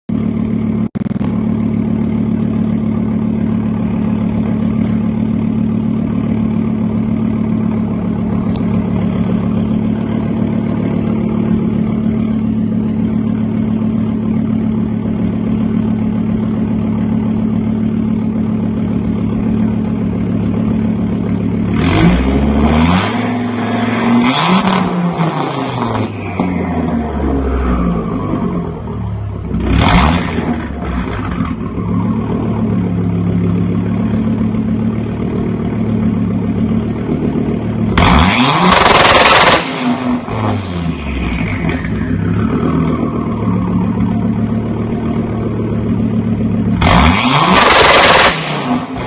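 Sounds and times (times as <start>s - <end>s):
car engine idling and revving: 0.1s - 49.0s.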